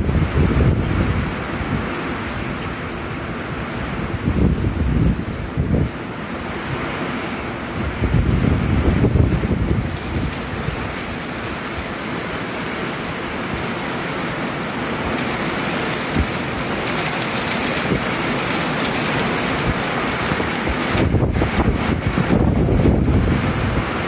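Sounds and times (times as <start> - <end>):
wind buffeting microphone: 0.0 - 12.4, 14.9 - 24.0
heavy rain pouring: 0.0 - 24.0.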